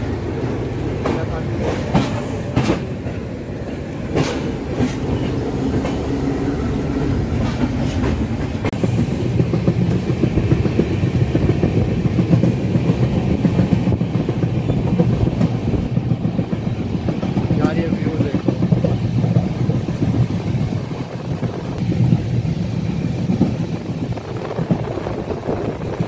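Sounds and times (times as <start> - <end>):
clickety-clack of rail joints: 0.0 - 6.3, 7.0 - 26.0
train wheels rumbling on track: 0.0 - 26.0.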